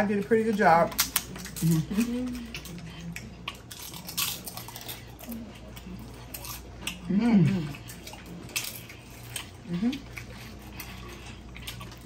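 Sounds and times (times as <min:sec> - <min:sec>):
tortilla chips crunching: 0:00.0 - 0:12.0.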